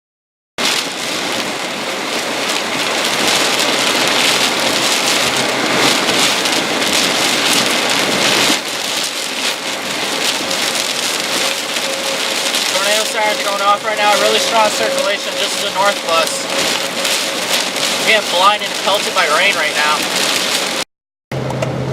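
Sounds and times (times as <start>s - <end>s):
heavy rain pelting down: 0.6s - 21.9s.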